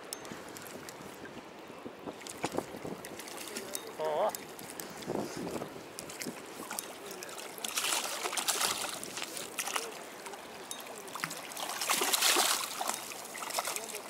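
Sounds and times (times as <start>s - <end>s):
fish thrashing and splashing: 2.2s - 14.0s.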